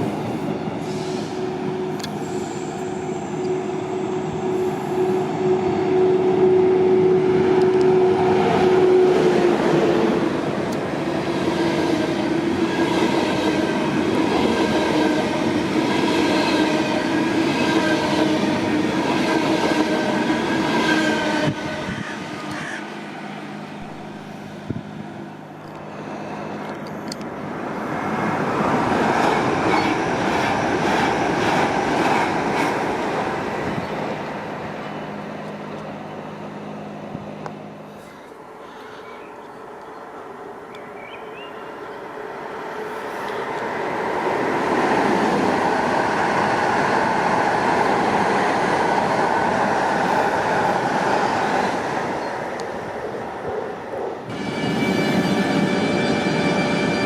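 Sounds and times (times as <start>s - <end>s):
train rolling noise: 0.0s - 57.0s
train whine: 0.0s - 57.0s.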